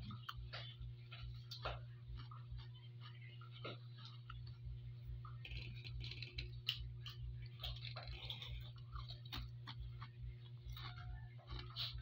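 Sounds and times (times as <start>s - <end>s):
crunching and chewing crisps: 0.0s - 12.0s
low hum: 0.0s - 12.0s.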